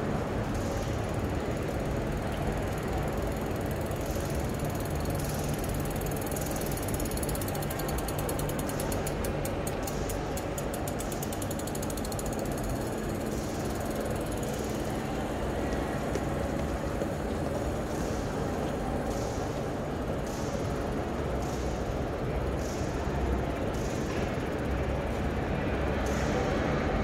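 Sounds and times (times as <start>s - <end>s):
traffic rumble: 0.0s - 27.0s
rapid mechanical ticking: 0.1s - 26.3s.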